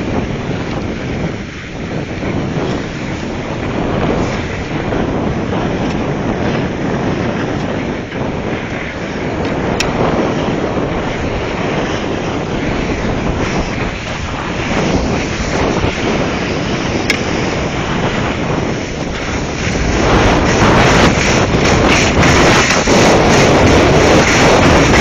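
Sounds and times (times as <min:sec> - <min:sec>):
skis hissing on snow: 0:00.0 - 0:25.0
wind rushing over microphone: 0:00.0 - 0:25.0.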